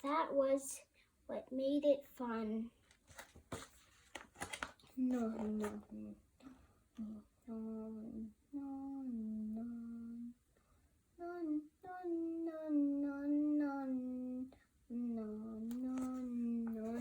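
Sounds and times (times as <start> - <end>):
child singing wordless tune: 0.0 - 2.8, 5.0 - 10.4, 11.2 - 17.0.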